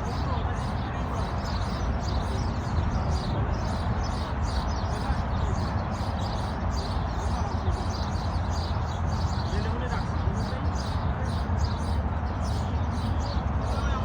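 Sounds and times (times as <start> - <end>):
birds chirping chorus: 0.0 - 14.0.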